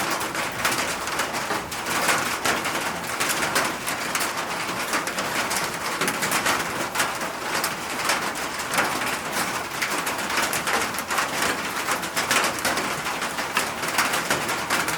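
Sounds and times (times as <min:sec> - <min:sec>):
rain pattering on a surface: 0:00.0 - 0:14.9.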